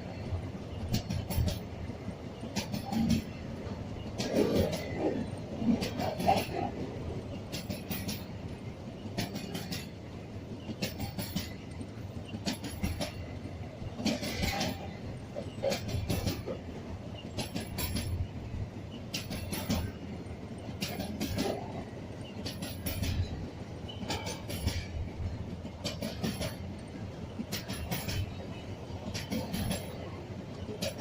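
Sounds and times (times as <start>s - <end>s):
train rumble: 0.0s - 31.0s
wheels clacking over rail joints: 0.0s - 31.0s.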